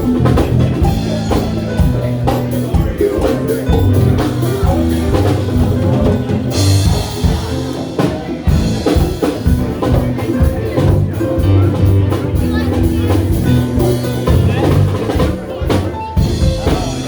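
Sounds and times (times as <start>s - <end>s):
ragtime band playing: 0.0s - 17.0s.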